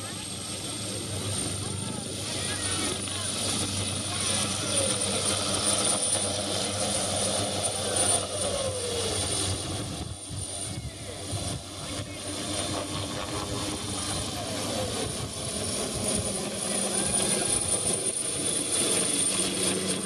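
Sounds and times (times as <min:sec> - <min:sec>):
helicopter rotor noise: 0:00.0 - 0:20.0
helicopter turbine whine: 0:00.0 - 0:20.0.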